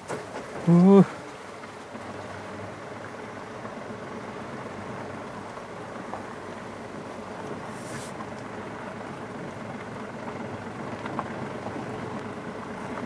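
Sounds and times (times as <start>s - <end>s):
car engine running: 0.0s - 13.0s
tyres rolling on gravel: 0.0s - 13.0s.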